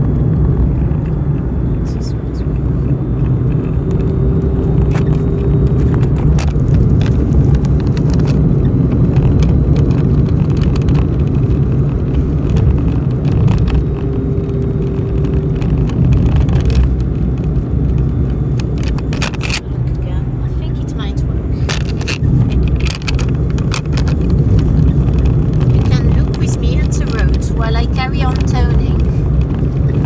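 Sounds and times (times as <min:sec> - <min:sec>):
car road noise rumble: 0:00.0 - 0:30.0.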